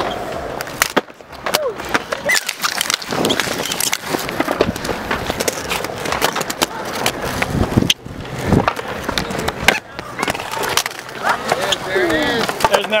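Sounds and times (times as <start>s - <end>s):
skateboard clacks and knocks: 0.0s - 13.0s
skateboard wheels rolling on concrete: 0.0s - 13.0s.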